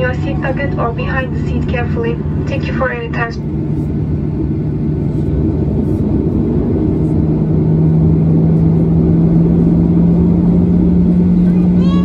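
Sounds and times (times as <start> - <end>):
jet engines heard from cabin: 0.0 - 12.0.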